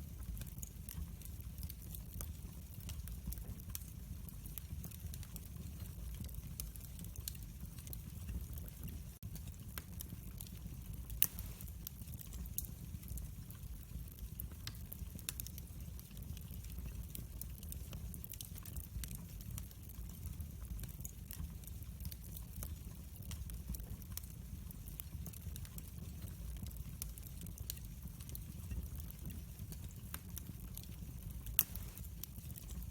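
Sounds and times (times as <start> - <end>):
fire low rumble: 0.0 - 32.9
wood fire crackling and popping: 0.0 - 32.9.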